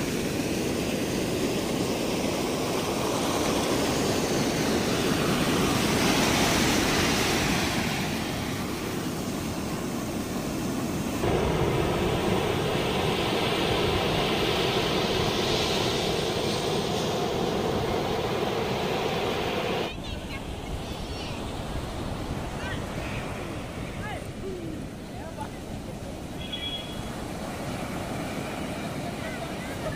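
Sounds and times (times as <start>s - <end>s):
waves breaking on sandy beach: 0.0s - 29.9s.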